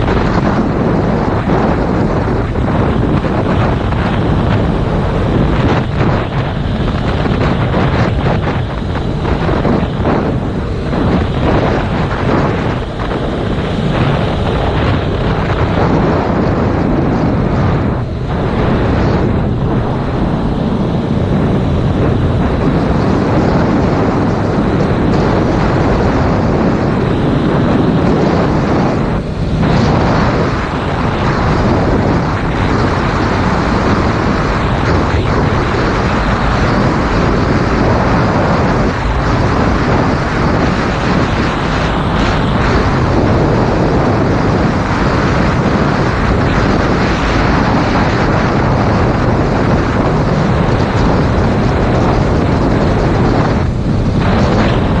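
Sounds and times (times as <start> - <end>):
heavy wind noise on microphone: 0.0 - 55.0.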